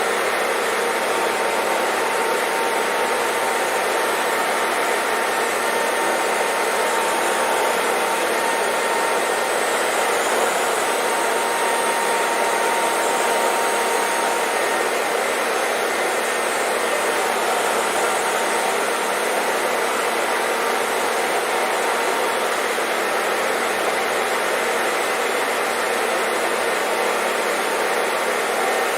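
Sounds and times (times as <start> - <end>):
hair dryer running: 0.0 - 28.9.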